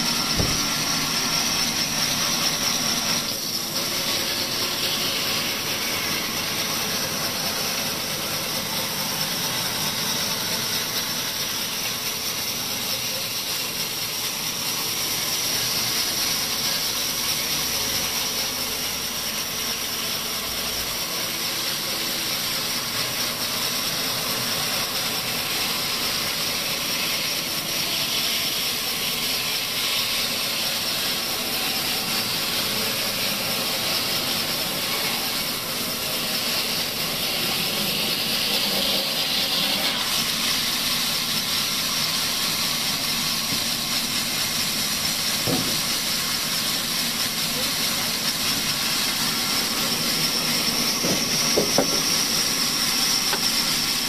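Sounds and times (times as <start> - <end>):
saw blade cutting log hiss: 0.0 - 54.0
sawmill machine hum: 0.0 - 54.0.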